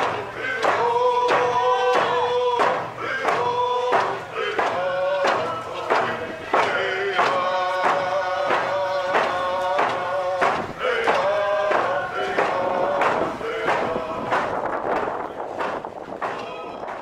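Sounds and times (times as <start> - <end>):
group of voices chanting: 0.0 - 15.0
steady drumbeat: 0.0 - 17.0.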